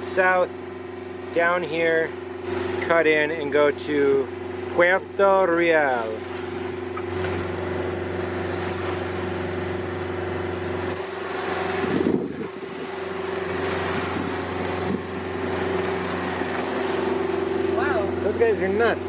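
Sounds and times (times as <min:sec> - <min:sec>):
boat engine droning: 0:00.0 - 0:19.0
wind: 0:00.0 - 0:19.0.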